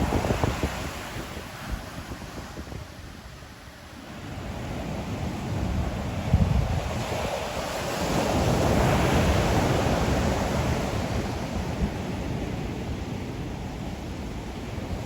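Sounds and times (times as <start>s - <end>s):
ocean waves breaking on shore: 0.0s - 15.0s
wind on microphone: 0.0s - 15.0s.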